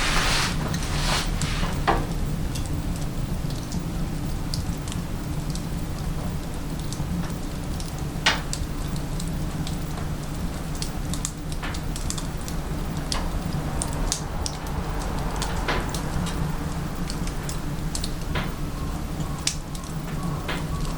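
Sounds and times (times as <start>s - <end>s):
wood fire burning in stove: 0.0s - 20.9s.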